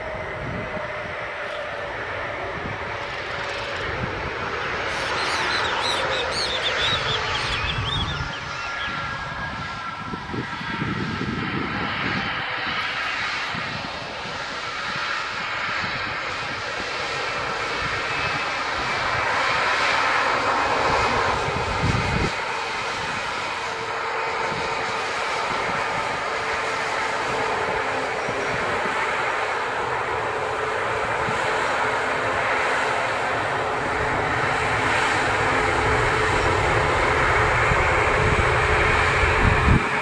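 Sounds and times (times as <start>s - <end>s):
jet engines rushing with whine: 0.0s - 40.0s.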